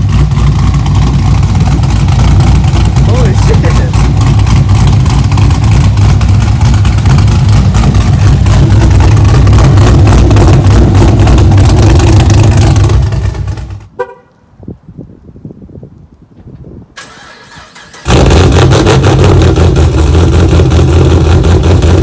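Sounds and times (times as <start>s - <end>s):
loud car engine: 0.0s - 14.0s, 17.0s - 22.0s.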